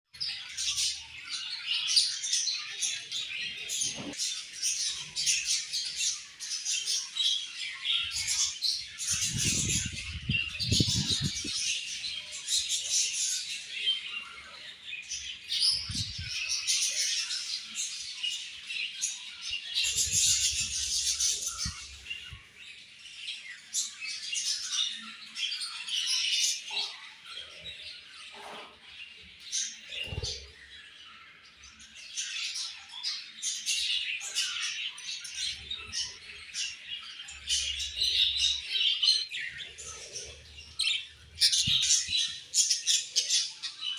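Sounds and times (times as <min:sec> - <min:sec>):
budgerigars chattering and chirping: 0:00.3 - 0:43.9.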